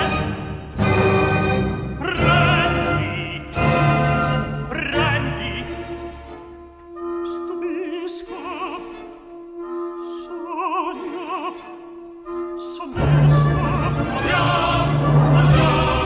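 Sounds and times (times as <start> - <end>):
soft orchestral accompaniment: 0.0 - 16.0
operatic solo singing: 2.0 - 6.0, 7.1 - 16.0.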